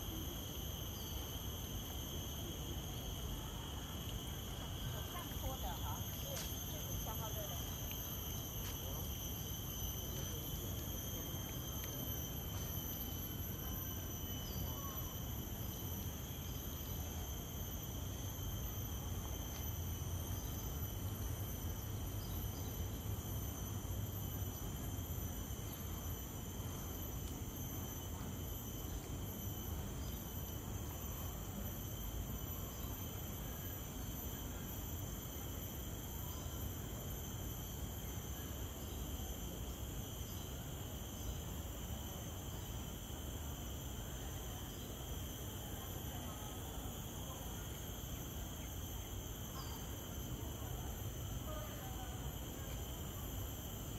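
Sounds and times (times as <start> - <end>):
insects chirping shrilly: 0.0 - 53.9.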